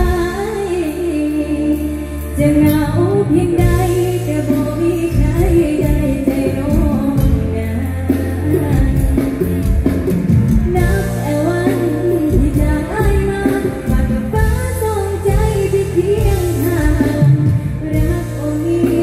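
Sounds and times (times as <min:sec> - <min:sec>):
girl singing into a microphone: 0:00.0 - 0:09.5, 0:10.7 - 0:19.0
live band playing: 0:00.0 - 0:19.0.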